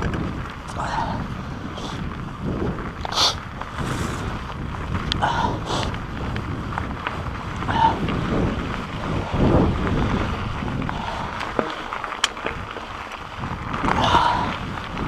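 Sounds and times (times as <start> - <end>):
bike tyres rumbling on rocks: 0.0 - 15.0
wind buffeting microphone: 0.0 - 15.0.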